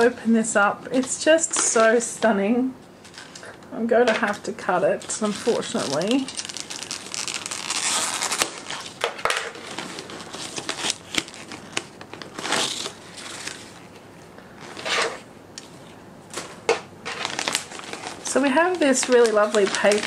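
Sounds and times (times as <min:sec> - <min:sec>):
wrapping paper rustling: 0:03.0 - 0:20.0.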